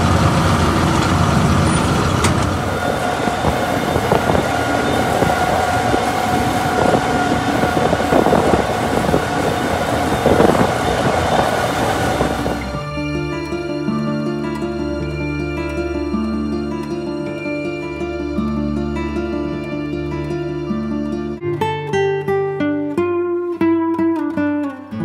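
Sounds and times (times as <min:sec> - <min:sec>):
constant whine: 0:00.0 - 0:21.4
heavy vehicle engine: 0:00.0 - 0:21.4.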